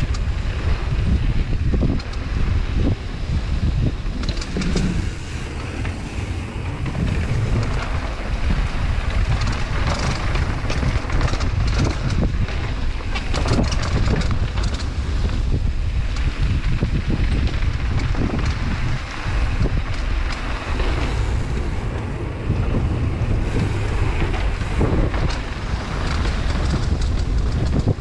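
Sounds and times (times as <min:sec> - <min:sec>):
bike clicks and rattles: 0:00.0 - 0:28.0
wind buffeting microphone: 0:00.0 - 0:28.0.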